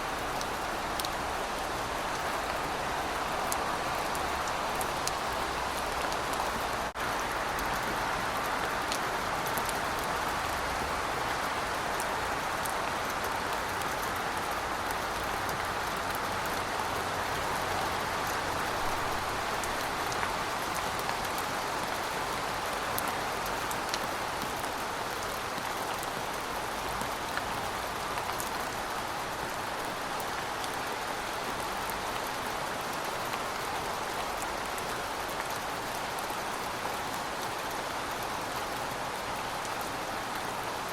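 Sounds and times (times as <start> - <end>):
rain on pavement: 0.0 - 40.9.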